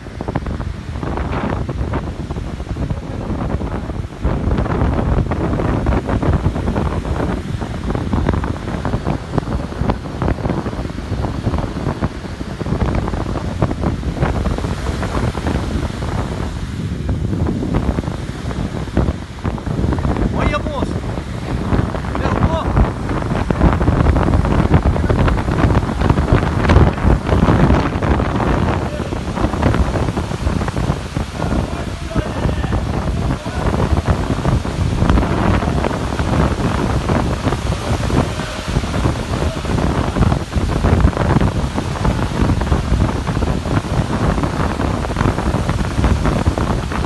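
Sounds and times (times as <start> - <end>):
strong wind buffeting microphone: 0.0 - 47.0.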